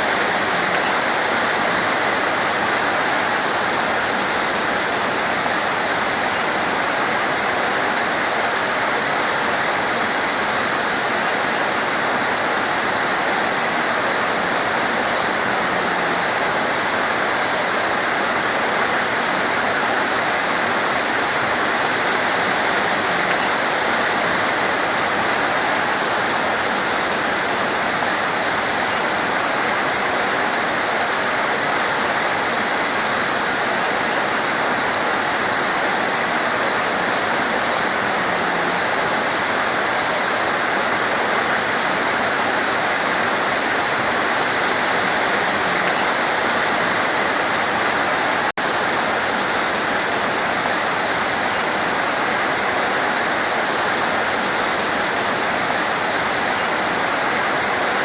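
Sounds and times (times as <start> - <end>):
torrential rain: 0.0 - 58.0.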